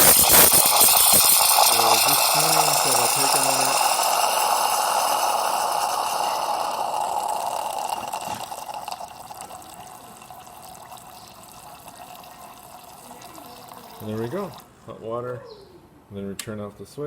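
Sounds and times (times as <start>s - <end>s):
espresso machine steam hissing: 0.0s - 14.6s.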